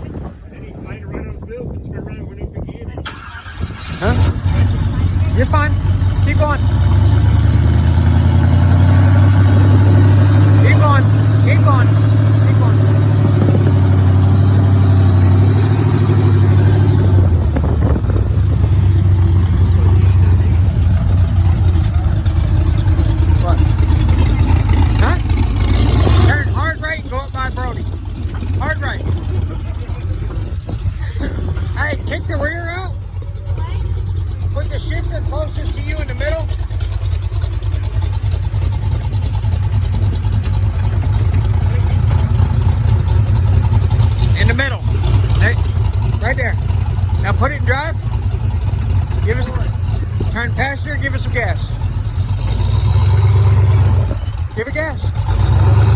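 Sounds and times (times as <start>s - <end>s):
vehicle engine running: 0.0s - 55.9s.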